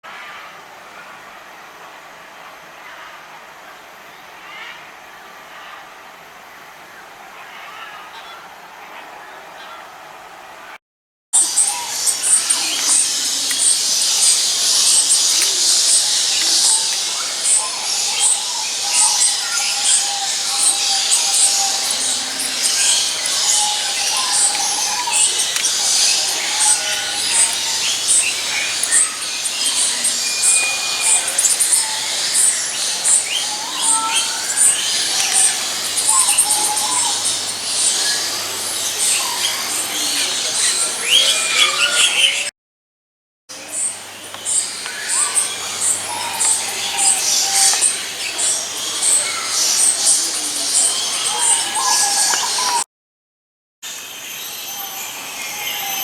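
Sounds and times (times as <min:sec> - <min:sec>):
flock of birds chirping: 0:00.1 - 0:10.8, 0:11.4 - 0:42.5, 0:43.5 - 0:52.8, 0:53.9 - 0:56.0.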